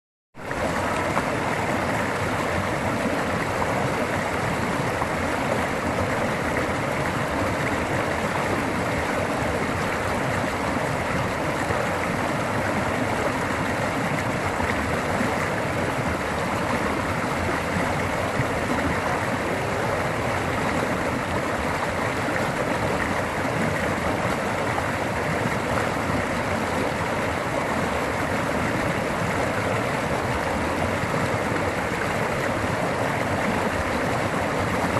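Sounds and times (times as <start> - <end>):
roar of rushing floodwater: 0.4 - 34.9.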